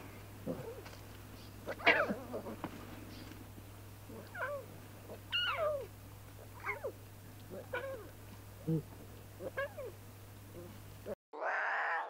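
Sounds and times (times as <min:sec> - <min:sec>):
lion cubs mewing: 0:00.4 - 0:03.4, 0:04.0 - 0:12.0.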